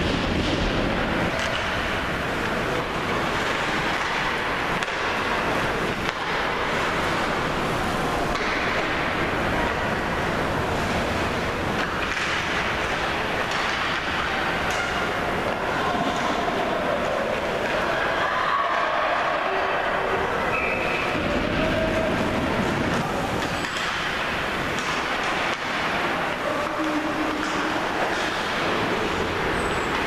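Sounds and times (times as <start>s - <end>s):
sticks and puck clacking: 0.0s - 30.0s.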